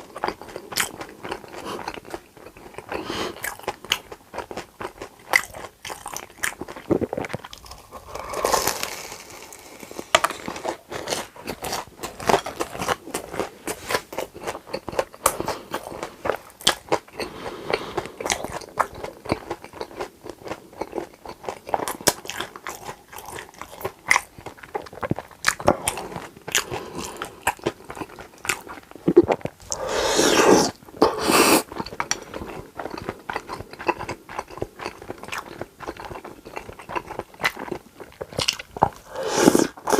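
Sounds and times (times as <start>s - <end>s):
crunchy bites and chewing: 0.0s - 17.3s, 18.0s - 39.9s.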